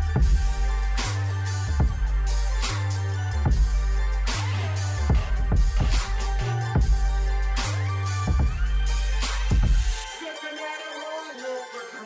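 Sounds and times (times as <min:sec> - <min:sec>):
deep bass line with drum hits: 0:00.0 - 0:10.1.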